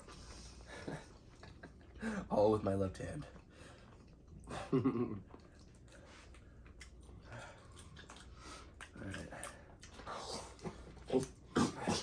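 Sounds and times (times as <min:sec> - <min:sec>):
people chewing food: 0:00.0 - 0:02.3, 0:03.1 - 0:12.0.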